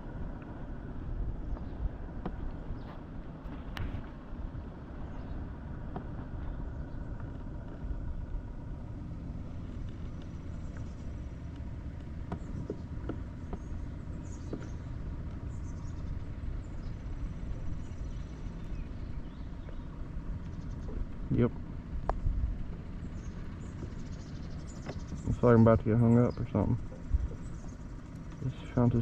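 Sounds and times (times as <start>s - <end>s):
low rumbling wind noise: 0.0s - 29.0s.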